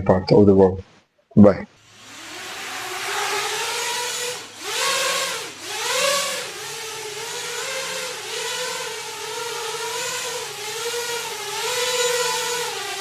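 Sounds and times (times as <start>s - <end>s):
quadcopter motors whining: 1.8s - 13.0s.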